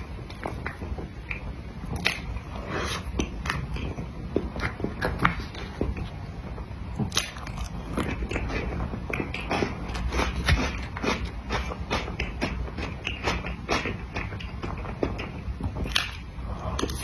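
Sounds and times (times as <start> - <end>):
person chewing with wet smacks: 0.0 - 6.3, 6.9 - 17.0.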